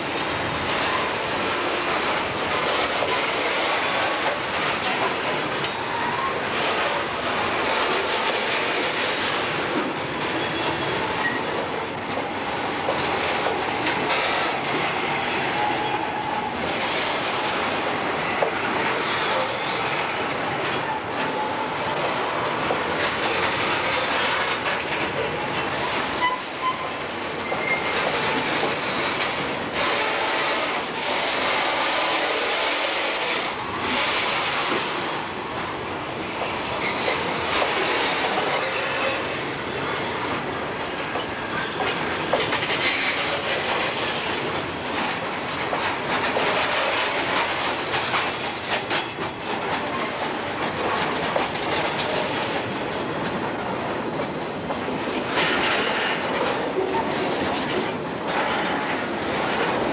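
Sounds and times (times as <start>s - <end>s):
steel wheels clattering over rail: 0.0s - 59.9s.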